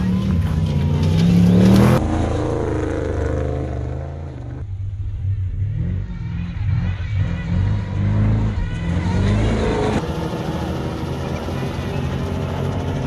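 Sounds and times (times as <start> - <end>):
race truck engine revving: 0.0 - 4.7, 5.4 - 13.0.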